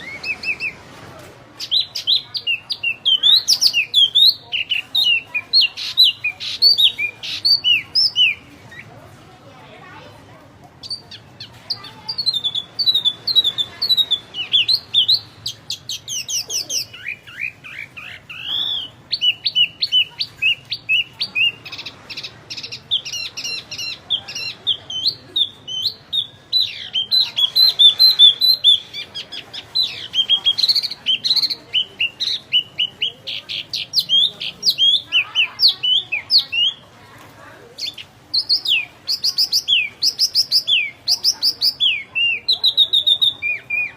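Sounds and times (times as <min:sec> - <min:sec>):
songbird singing: 0:00.0 - 0:08.9, 0:10.6 - 0:43.9.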